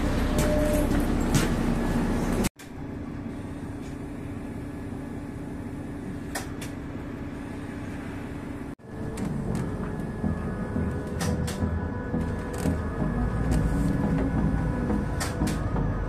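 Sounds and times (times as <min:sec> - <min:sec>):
bus engine hum and rumble: 0:00.0 - 0:16.0.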